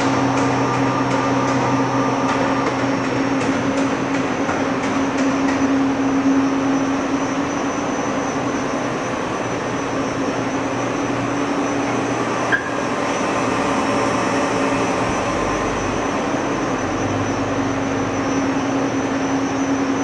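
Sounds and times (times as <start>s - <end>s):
lathe humming with high whine: 0.0s - 20.0s.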